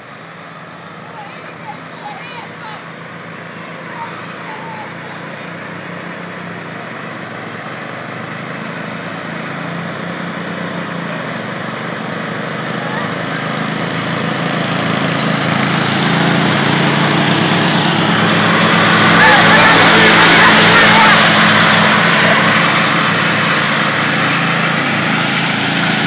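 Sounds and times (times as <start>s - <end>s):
riding lawnmower engine running: 0.0s - 26.0s.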